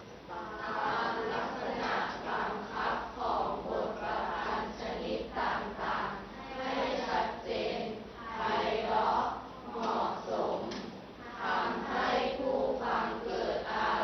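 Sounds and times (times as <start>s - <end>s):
person chanting verse melodically: 0.0s - 14.0s.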